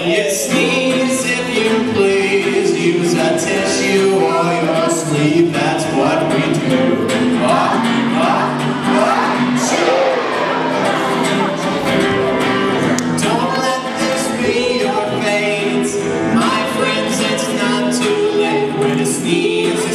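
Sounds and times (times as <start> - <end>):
voices singing children's song: 0.0 - 19.9.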